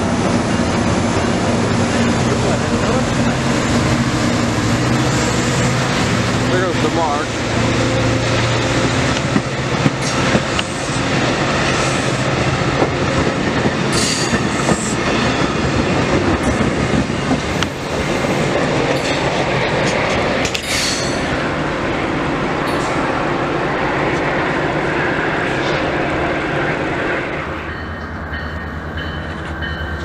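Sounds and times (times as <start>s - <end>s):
train coaches rumbling past: 0.0s - 30.0s.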